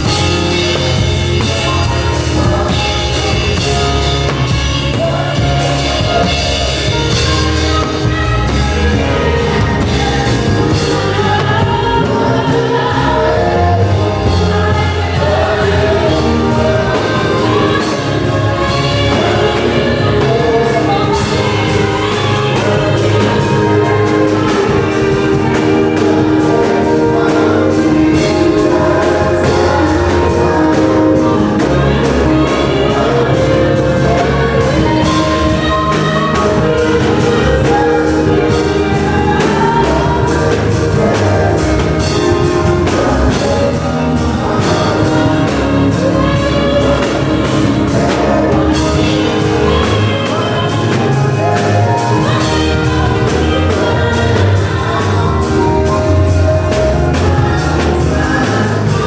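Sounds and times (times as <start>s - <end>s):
band with drums and bass: 0.0s - 59.0s
voices singing together: 0.0s - 59.0s.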